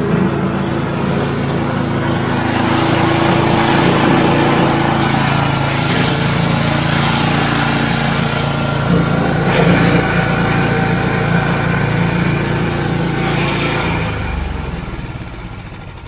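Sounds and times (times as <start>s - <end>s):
snowblower engine droning: 0.0s - 16.0s.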